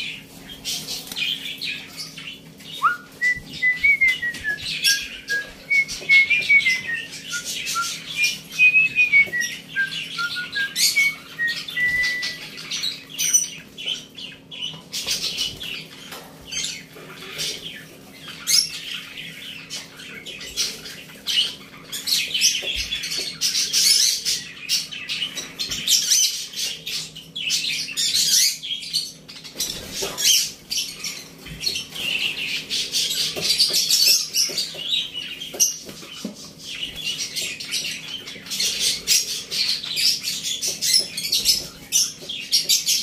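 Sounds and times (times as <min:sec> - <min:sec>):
cockatiels chirping and squawking: 0:00.0 - 0:43.0.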